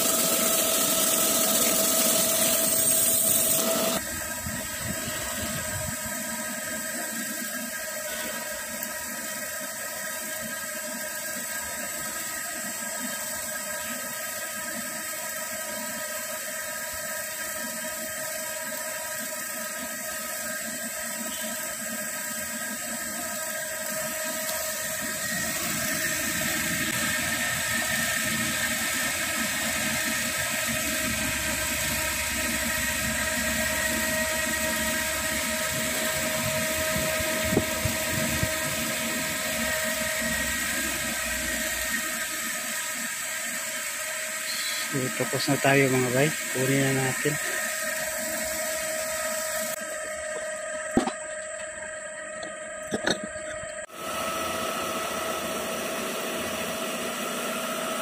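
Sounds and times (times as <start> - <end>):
grinding machine whine: 0.0 - 58.0.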